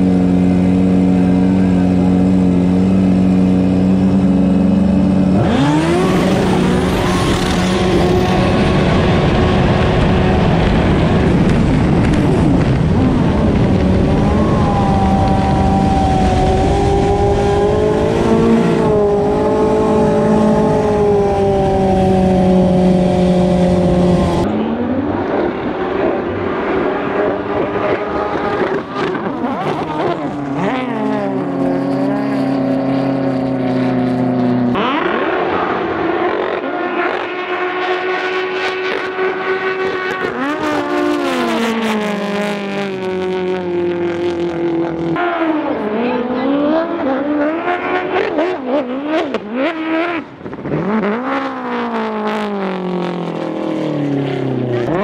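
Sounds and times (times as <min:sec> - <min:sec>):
jet ski engine revving: 0:00.0 - 0:25.2, 0:25.9 - 0:55.0
distant jet ski passing by: 0:00.0 - 0:55.0.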